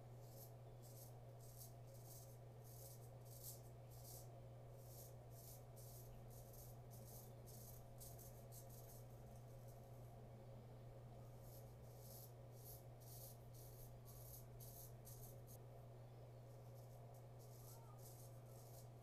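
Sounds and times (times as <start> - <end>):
steady low hum: 0.0 - 19.0
razor scraping stubble: 0.2 - 9.9, 11.4 - 15.6, 16.6 - 19.0.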